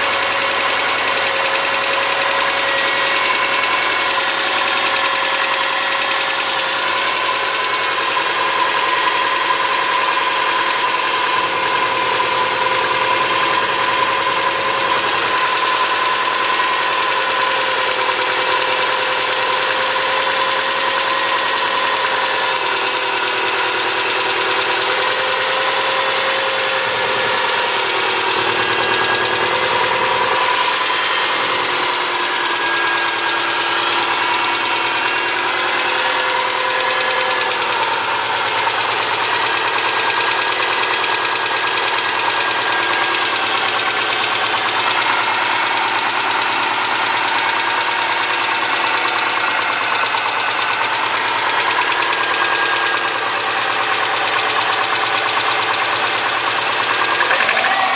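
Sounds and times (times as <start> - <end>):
car engine idling: 0.0 - 57.9
engine valve ticking: 0.0 - 57.9.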